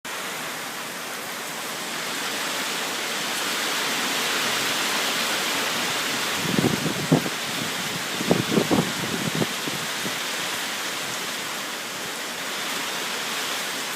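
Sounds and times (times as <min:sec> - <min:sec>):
heavy rain: 0:00.0 - 0:13.9.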